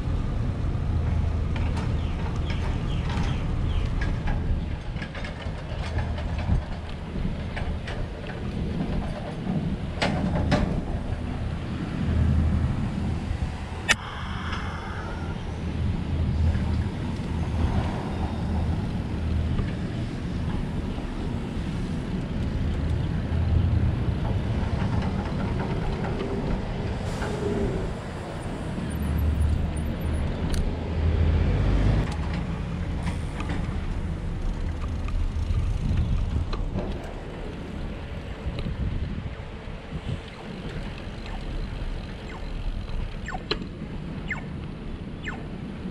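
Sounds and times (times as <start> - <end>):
traffic and air rumble: 0.0 - 45.9.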